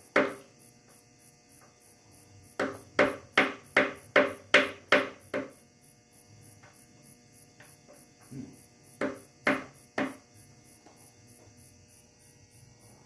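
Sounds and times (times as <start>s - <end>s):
high insect chirps: 0.0s - 13.0s.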